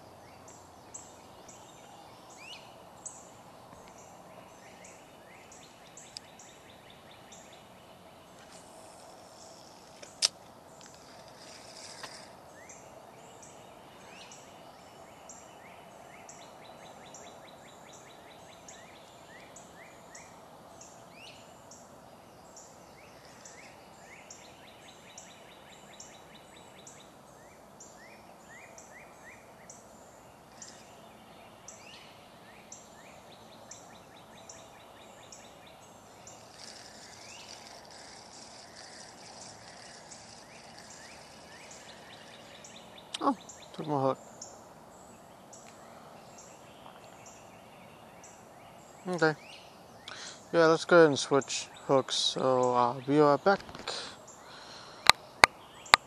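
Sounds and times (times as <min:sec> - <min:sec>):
birds chirping: 0:00.0 - 0:56.0
steady background noise: 0:00.0 - 0:56.0.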